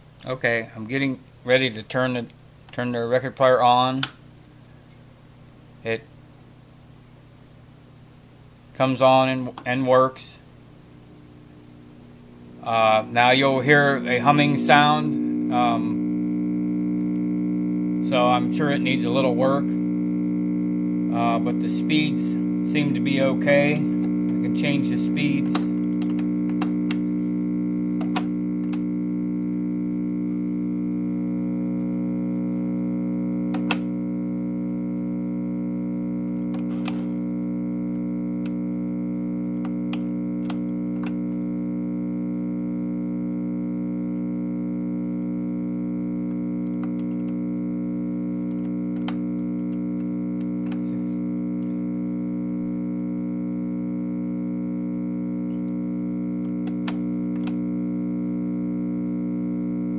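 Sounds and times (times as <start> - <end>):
record player speaker hum: 0.0 - 59.9.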